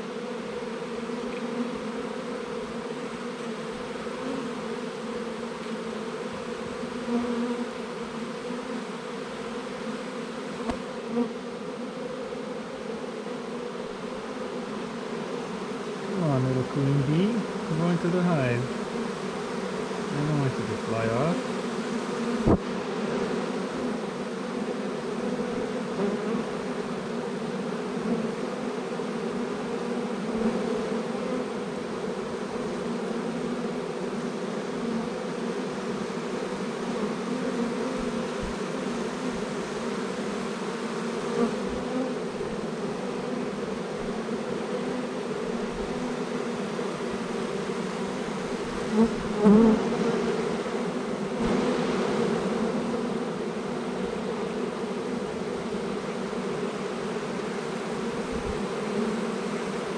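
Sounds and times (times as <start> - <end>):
bee swarm buzzing: 0.0 - 59.9.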